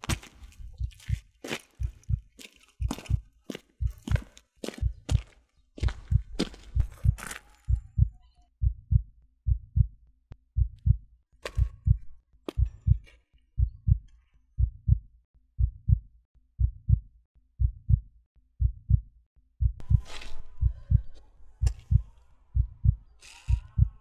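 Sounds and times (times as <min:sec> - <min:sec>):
heartbeat thumps: 0:00.0 - 0:10.0, 0:10.6 - 0:15.0, 0:15.6 - 0:16.0, 0:16.6 - 0:17.0, 0:17.6 - 0:18.0, 0:18.6 - 0:24.0.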